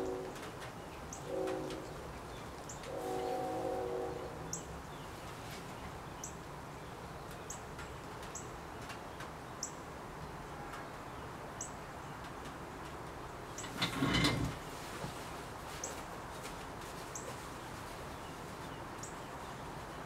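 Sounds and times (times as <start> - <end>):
low hiss of room noise: 0.0 - 20.0.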